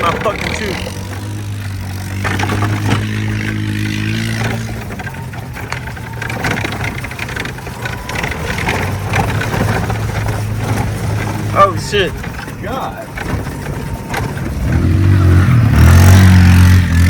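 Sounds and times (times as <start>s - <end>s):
knocks and rattles: 0.0s - 17.0s
vehicle motor humming: 0.0s - 17.0s.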